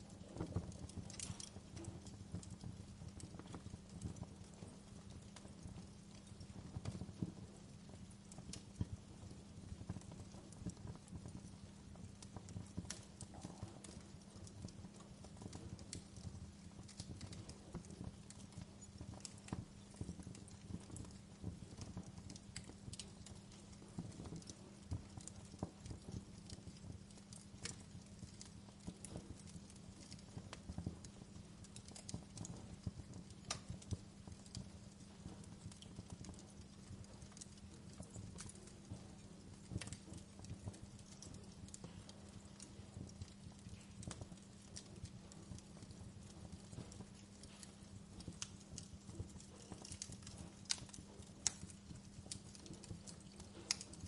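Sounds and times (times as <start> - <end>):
low fire rumble: 0.0 - 54.0
wood fire crackling: 0.0 - 54.0.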